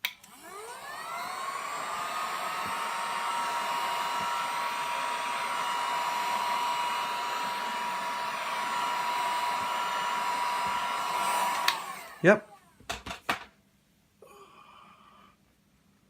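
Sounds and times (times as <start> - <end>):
heat gun whine: 0.0 - 13.1.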